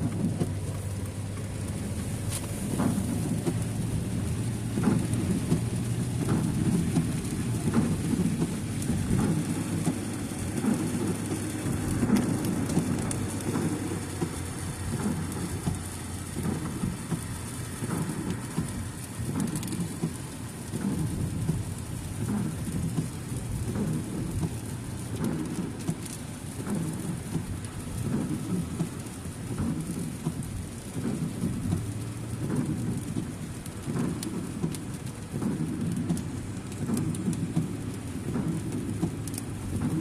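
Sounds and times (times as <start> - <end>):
rain hitting car: 0.0 - 40.0
road and engine rumble: 0.0 - 40.0.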